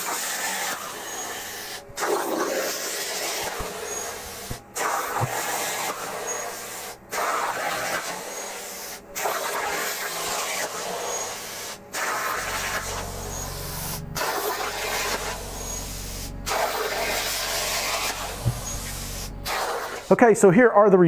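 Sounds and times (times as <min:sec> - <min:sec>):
plasma cutter torch hissing: 0:00.0 - 0:20.2.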